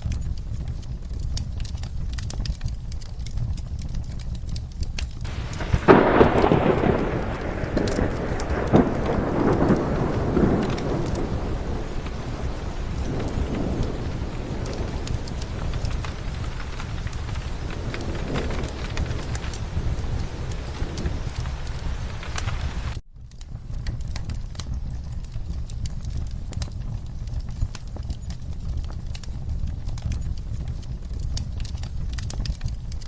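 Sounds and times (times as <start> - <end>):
steady rain: 0.0 - 33.0
thunder rumbling: 0.0 - 33.0
wood fire crackling: 0.0 - 33.0.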